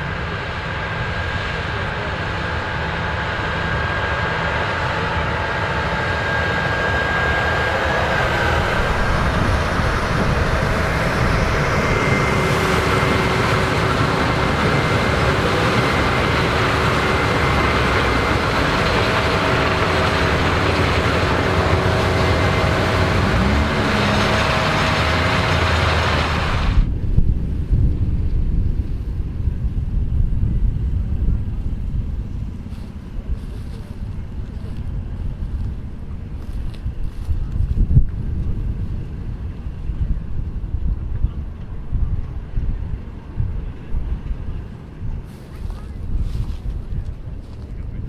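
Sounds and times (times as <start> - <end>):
tractor diesel engine running: 0.0 - 27.1, 31.0 - 48.0
faint steady whines: 0.0 - 48.0
low gusty rumble: 0.0 - 48.0.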